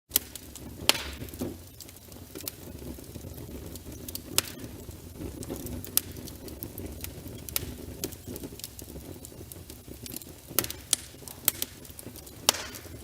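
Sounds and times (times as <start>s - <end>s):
fireplace fire crackling: 0.1s - 13.0s.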